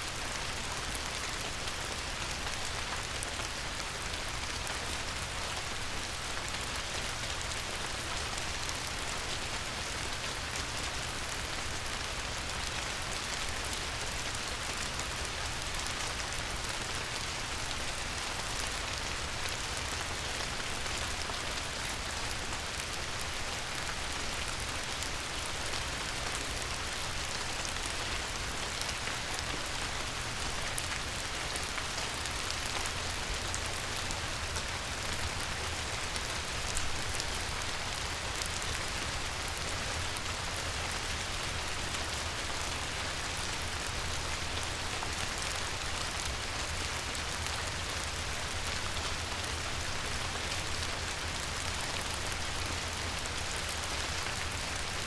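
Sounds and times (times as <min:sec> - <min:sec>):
light rain patter: 0:00.0 - 0:55.0.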